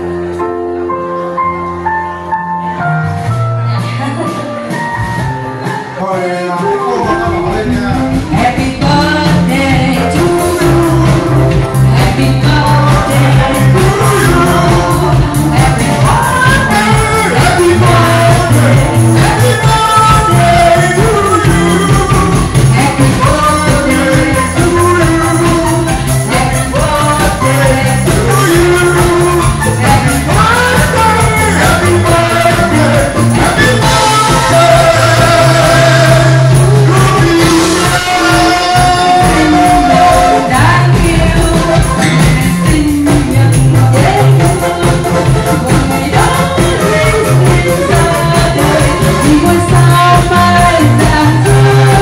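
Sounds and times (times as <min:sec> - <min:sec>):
live band music: 0:00.0 - 0:52.0
person singing: 0:02.2 - 0:52.0
steady drum beat: 0:03.7 - 0:52.0.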